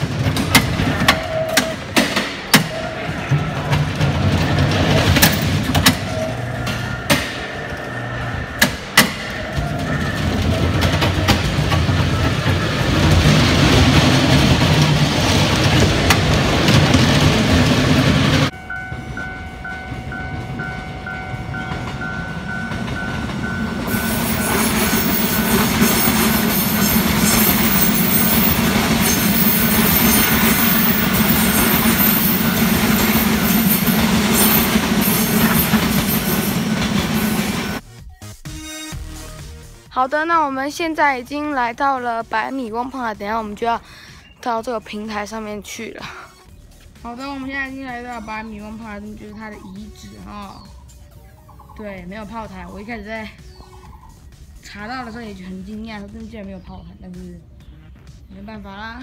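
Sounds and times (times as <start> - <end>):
passenger trains running past: 0.0 - 37.8, 40.7 - 59.0
electric train running by: 0.0 - 37.9, 40.7 - 59.0.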